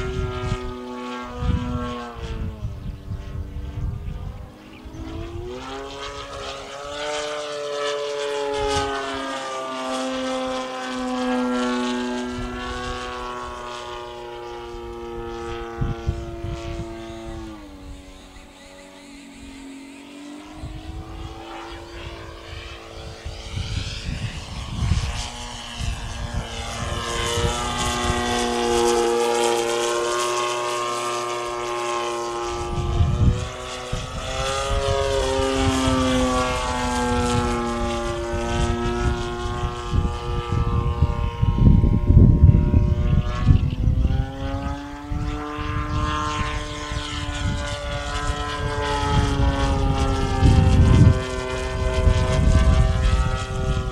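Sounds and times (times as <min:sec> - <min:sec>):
model airplane motor droning: 0:00.0 - 0:53.9.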